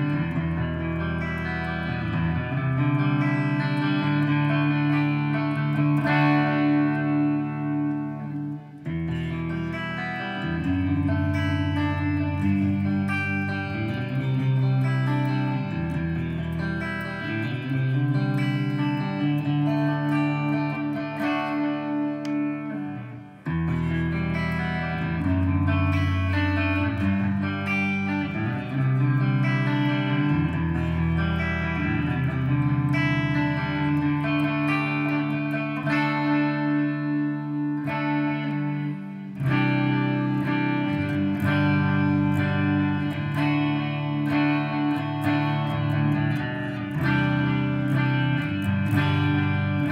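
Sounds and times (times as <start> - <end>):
electric guitar playing: 0.0 - 49.9.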